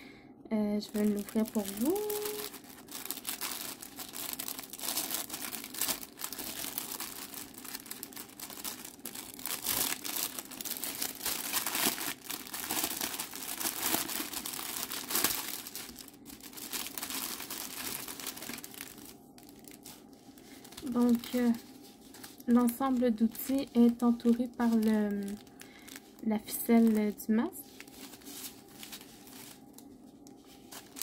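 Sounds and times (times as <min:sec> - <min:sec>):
plastic bags crinkling: 0:00.7 - 0:31.0.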